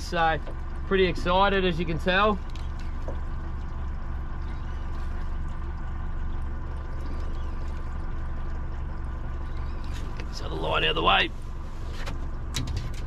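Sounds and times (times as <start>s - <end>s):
outboard motor humming: 0.0s - 13.0s.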